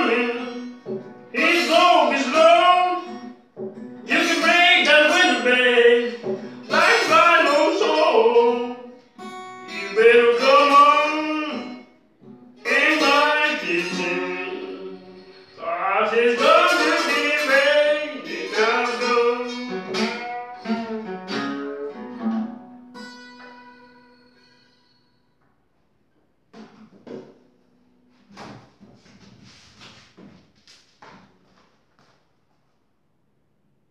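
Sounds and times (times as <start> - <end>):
acoustic blues guitar: 0.0 - 25.2, 26.5 - 30.2.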